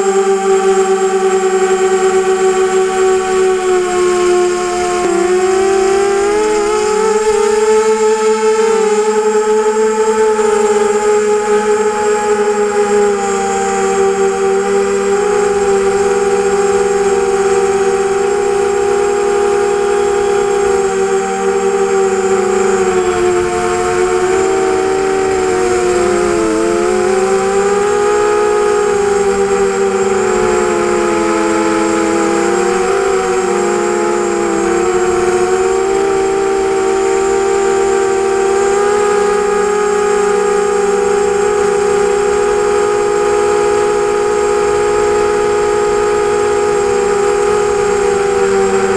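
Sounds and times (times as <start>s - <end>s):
drone motors whining: 0.0s - 48.9s.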